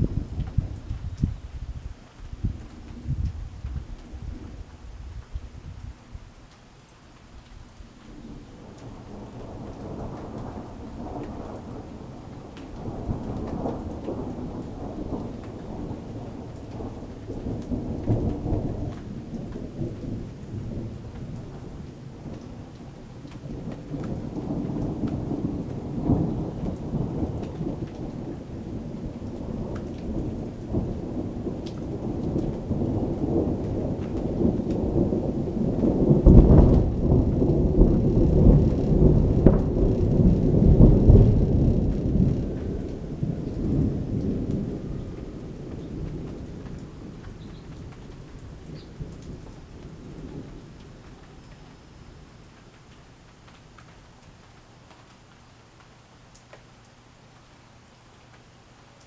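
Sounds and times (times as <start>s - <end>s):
thunder rumbling: 0.0s - 6.0s, 8.1s - 51.4s
rain falling: 0.0s - 59.0s.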